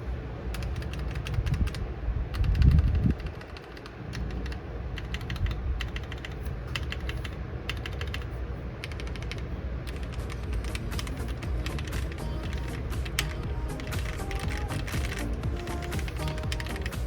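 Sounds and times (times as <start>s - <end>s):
mechanical keyboard keys clacking: 0.5s - 17.0s.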